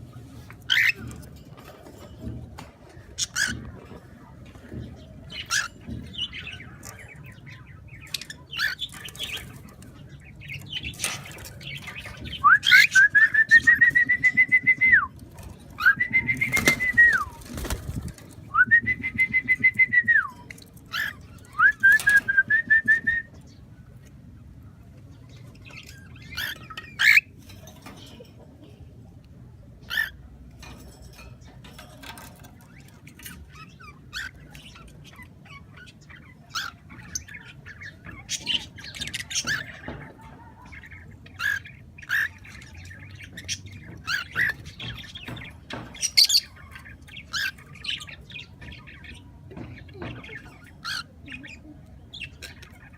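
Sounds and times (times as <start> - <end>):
pet birds chirping and clicking: 0.4 - 52.9.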